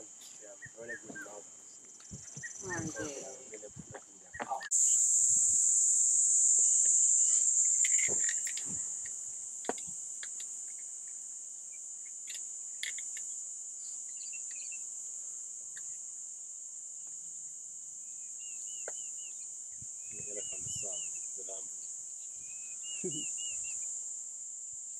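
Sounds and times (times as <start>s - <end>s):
insect chirps: 0.0s - 24.9s
insects droning: 0.0s - 24.9s.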